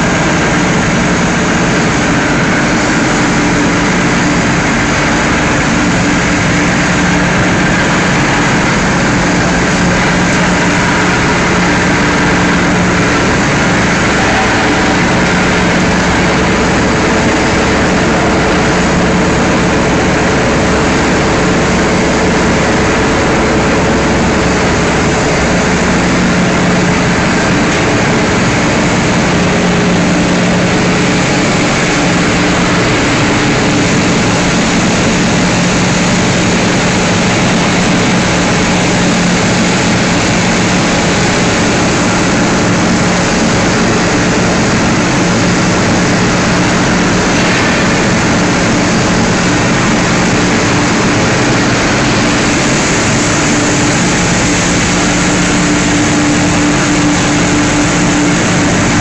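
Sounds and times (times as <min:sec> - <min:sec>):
low machine hum: 0:00.0 - 0:59.0
paddle drums droning: 0:00.0 - 0:59.0
water churning: 0:00.0 - 0:59.0.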